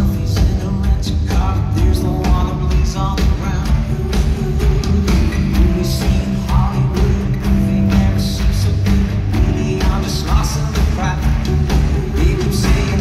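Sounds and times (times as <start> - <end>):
live pop-rock band playing: 0.0 - 13.0.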